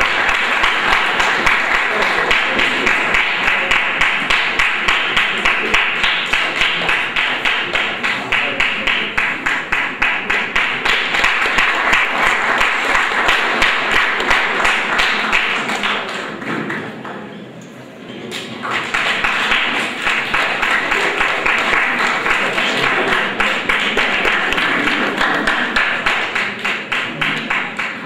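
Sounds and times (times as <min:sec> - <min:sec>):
audience clapping in rhythm: 0:00.0 - 0:17.2, 0:18.3 - 0:28.0.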